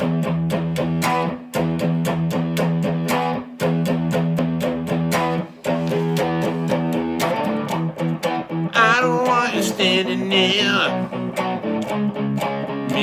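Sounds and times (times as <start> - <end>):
guitar strummed: 0.0 - 13.0.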